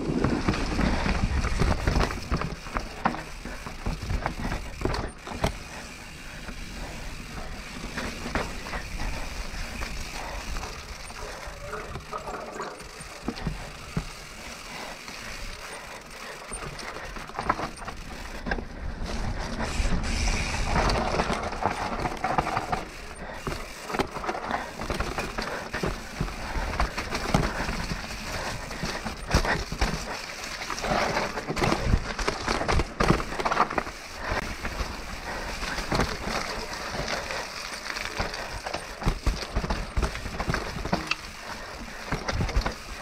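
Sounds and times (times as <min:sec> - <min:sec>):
bike rattling over bumps: 0:00.0 - 0:43.0
bike tyre rolling noise: 0:00.0 - 0:43.0.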